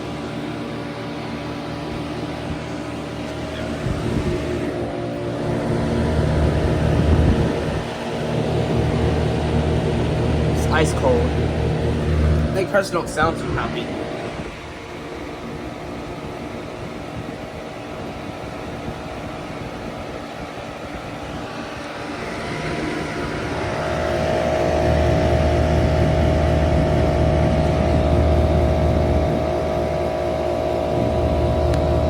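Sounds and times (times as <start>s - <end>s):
heat pump compressor and fan hum: 0.0s - 32.0s.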